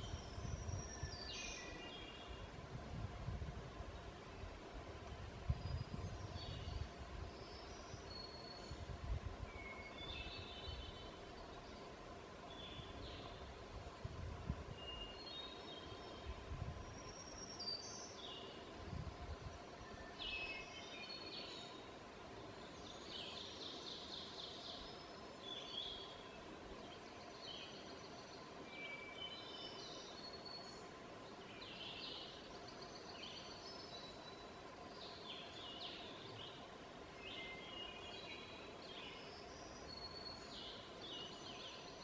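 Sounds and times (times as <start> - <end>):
woodland birds singing: 0.0 - 2.6, 5.4 - 14.0, 14.6 - 42.0.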